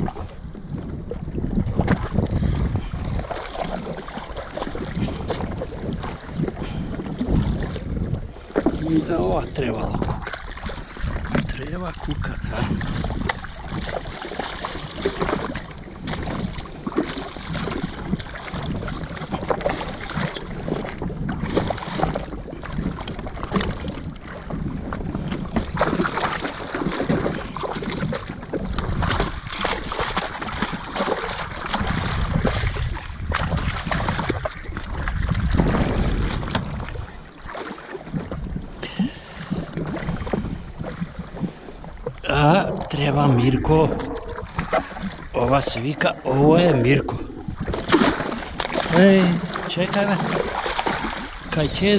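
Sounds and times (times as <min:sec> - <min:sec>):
water slapping against hull: 0:00.0 - 0:51.9
wind buffeting microphone: 0:00.0 - 0:51.9.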